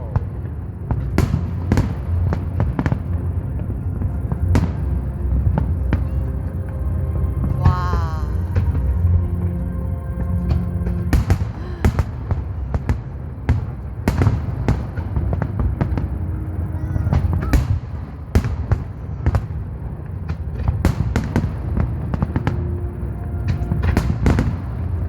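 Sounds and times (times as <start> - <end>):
fireworks bangs and crackles: 0.0 - 6.8, 10.2 - 25.0.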